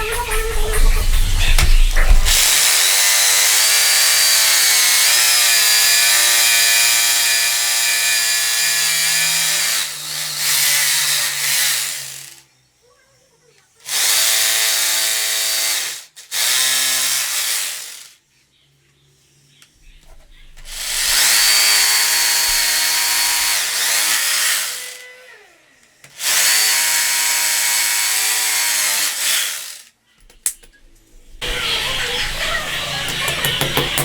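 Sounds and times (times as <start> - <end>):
electric drill motor running: 0.0 - 12.5, 13.9 - 18.2, 20.2 - 30.0, 30.6 - 34.0.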